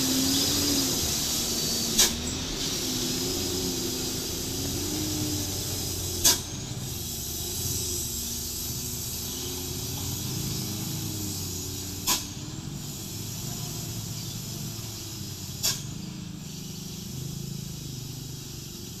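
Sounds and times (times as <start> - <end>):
air brake hisses: 0.0 - 19.0
diesel truck engine running: 0.0 - 19.0.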